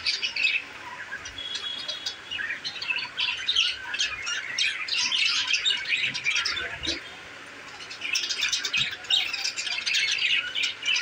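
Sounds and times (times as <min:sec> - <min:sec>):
budgerigars chattering: 0:00.0 - 0:11.0.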